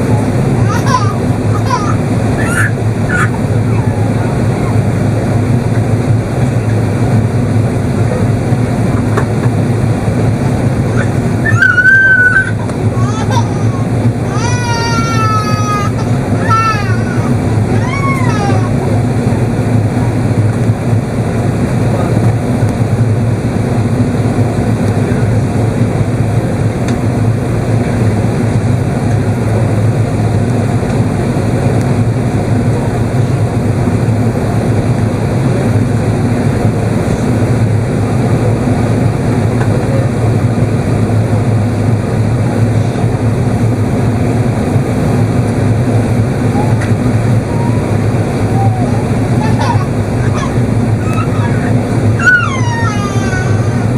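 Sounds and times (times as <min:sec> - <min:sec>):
air rushing along fuselage: 0:00.0 - 0:53.9
aircraft engines droning: 0:00.0 - 0:53.9.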